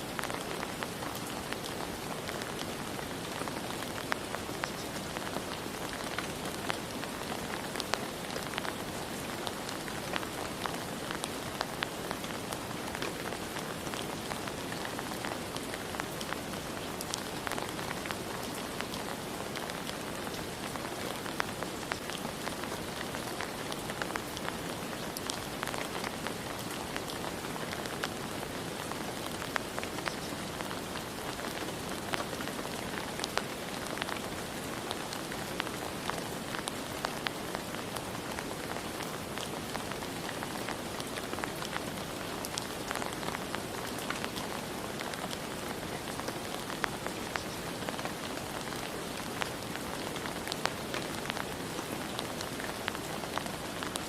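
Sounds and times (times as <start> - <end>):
rain drops pattering on surface: 0.0 - 54.0.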